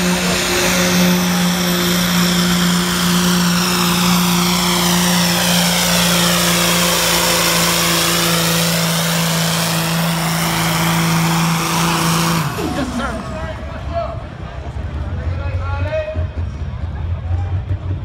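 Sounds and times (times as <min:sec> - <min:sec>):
diesel truck engine droning: 0:00.0 - 0:18.0.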